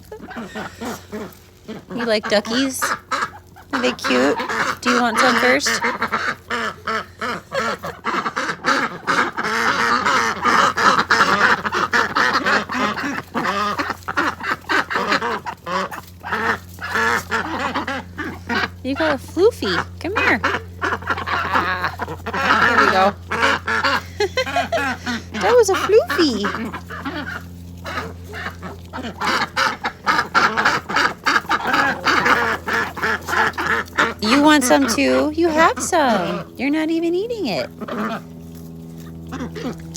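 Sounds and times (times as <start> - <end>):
ducks quacking: 0.0 - 39.9
steady low hum: 0.0 - 39.9.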